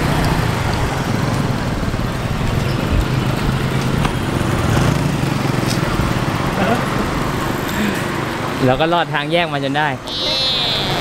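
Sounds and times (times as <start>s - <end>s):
cars passing: 0.0s - 11.0s
motorbike engines passing: 0.0s - 11.0s.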